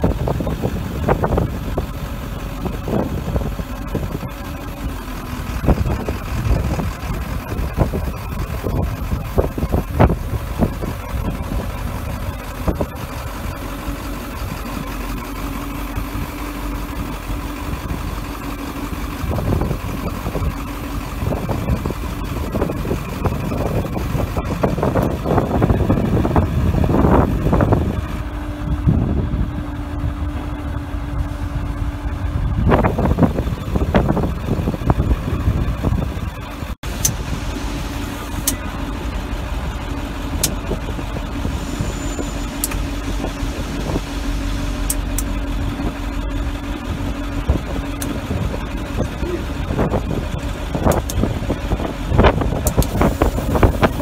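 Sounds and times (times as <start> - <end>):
hydraulic crane hum: 0.0 - 54.0
truck engine idling: 0.0 - 54.0.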